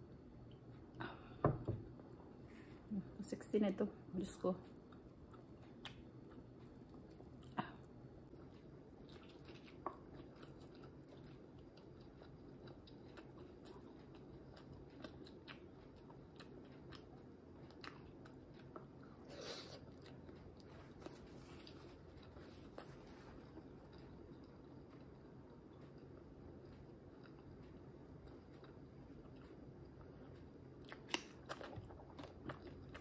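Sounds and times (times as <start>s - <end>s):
chewing and biting food: 4.6s - 33.0s.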